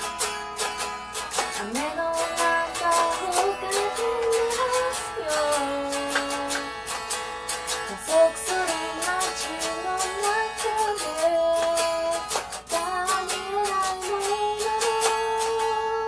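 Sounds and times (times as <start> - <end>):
electric guitar strumming: 0.0 - 16.0
woman singing: 1.4 - 6.9, 7.8 - 16.0.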